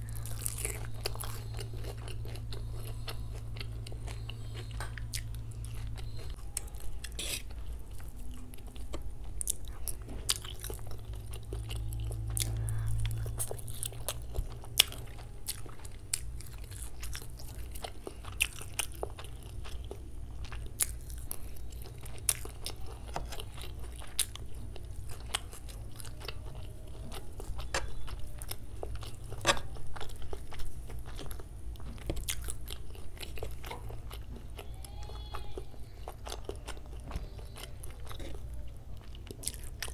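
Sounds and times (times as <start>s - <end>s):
chewing noodles: 0.0s - 39.9s
low steady hum: 0.0s - 39.9s.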